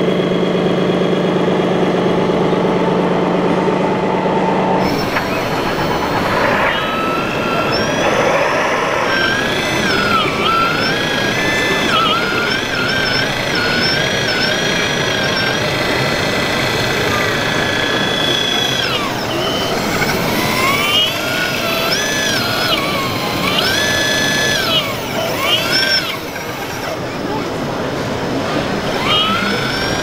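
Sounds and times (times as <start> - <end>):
model excavator motor whining: 0.0 - 30.0
crowd noise: 2.5 - 30.0.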